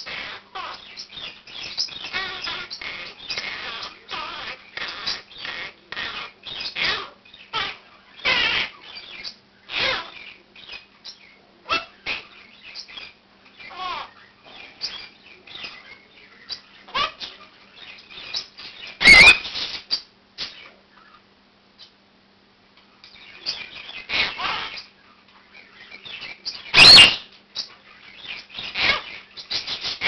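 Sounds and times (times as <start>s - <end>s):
loud harsh bird call: 0.0s - 10.8s, 11.7s - 21.2s, 23.2s - 25.0s, 25.6s - 30.0s
birds chirping and squawking: 0.0s - 22.0s, 23.0s - 30.0s.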